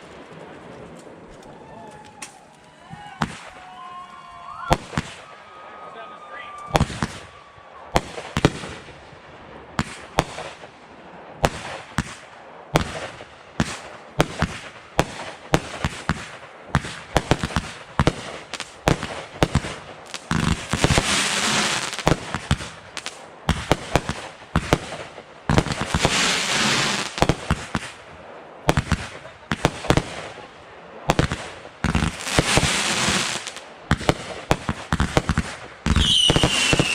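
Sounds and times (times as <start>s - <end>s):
fireworks crackle: 0.0s - 5.6s, 6.5s - 36.9s
fireworks bangs: 0.0s - 36.9s.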